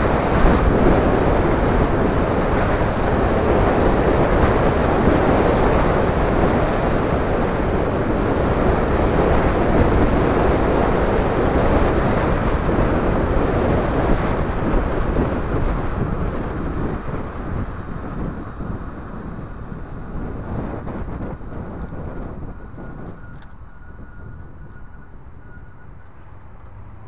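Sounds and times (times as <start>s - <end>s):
road noise: 0.0s - 27.0s
wind blasting across microphone: 0.0s - 27.0s.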